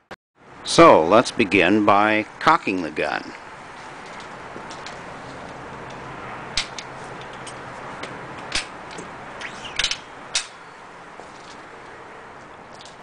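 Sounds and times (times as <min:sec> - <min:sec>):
background noise: 0:00.4 - 0:13.0.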